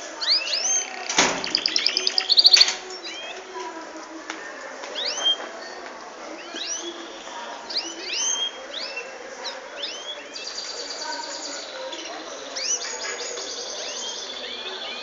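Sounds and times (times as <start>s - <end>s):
small birds chirping: 0.0s - 3.9s, 4.9s - 5.5s, 6.2s - 15.0s.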